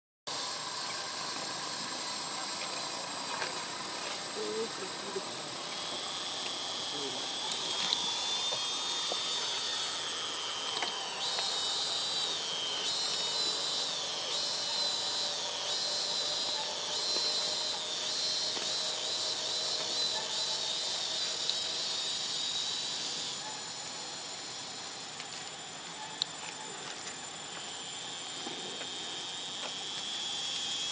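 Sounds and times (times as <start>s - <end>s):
insects buzzing: 0.3s - 30.9s.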